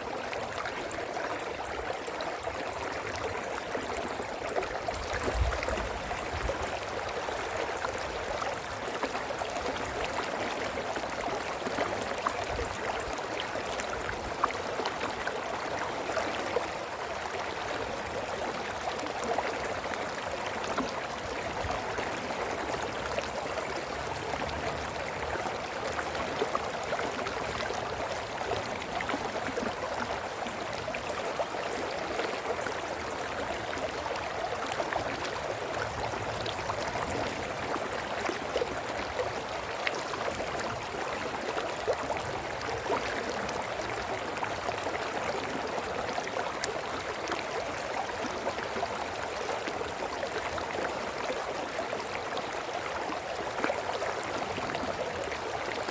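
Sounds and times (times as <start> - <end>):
brook babbling over stones: 0.0 - 55.9.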